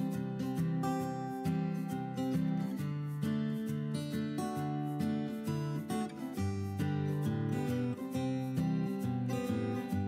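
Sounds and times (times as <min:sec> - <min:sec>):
plucked guitar chords: 0:00.0 - 0:10.0.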